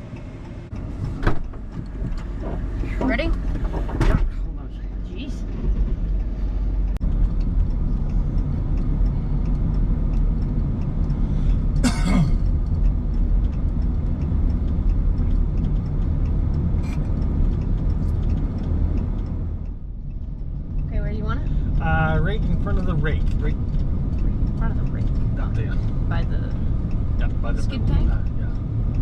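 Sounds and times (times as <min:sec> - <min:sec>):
vehicle engine low rumble: 0:00.0 - 0:29.0.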